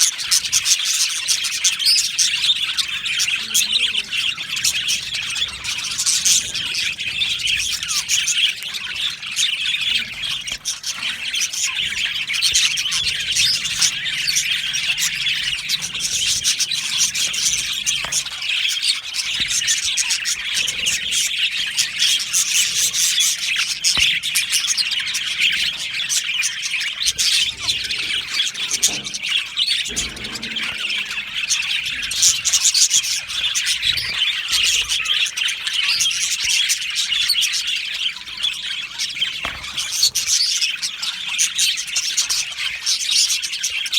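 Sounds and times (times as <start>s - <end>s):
budgerigars chirping and squawking: 0.0s - 43.9s.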